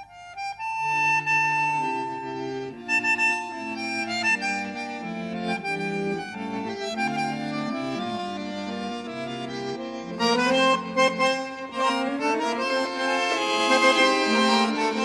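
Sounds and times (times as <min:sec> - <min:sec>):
instrumental background music: 0:00.1 - 0:15.0.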